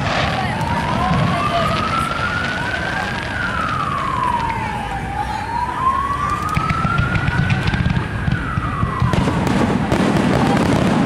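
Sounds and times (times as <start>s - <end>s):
fireworks crackling: 0.0s - 11.0s
siren wailing: 0.0s - 11.0s.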